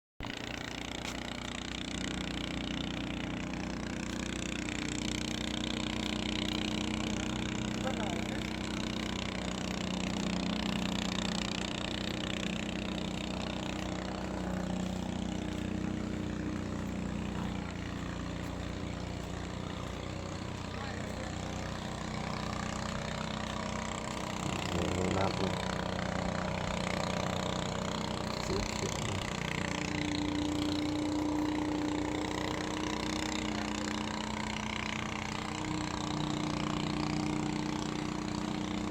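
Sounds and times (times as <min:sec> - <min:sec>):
engine running with low hum: 0:00.2 - 0:38.9.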